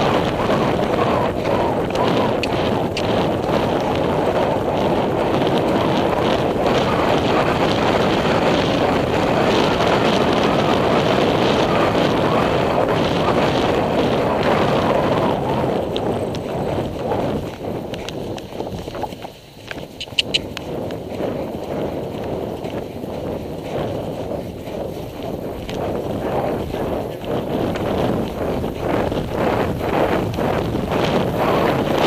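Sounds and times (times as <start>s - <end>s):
faint hoofbeats: 0.0s - 32.0s
wind rushing over microphone: 0.0s - 32.0s.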